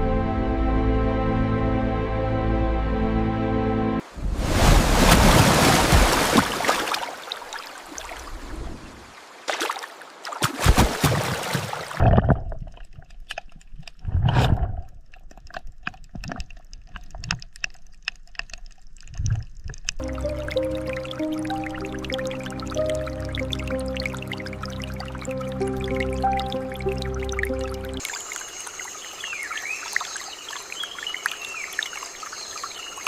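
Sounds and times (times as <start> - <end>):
water splashing and sloshing: 4.0 - 33.0
water dripping: 4.6 - 14.2, 14.8 - 33.0.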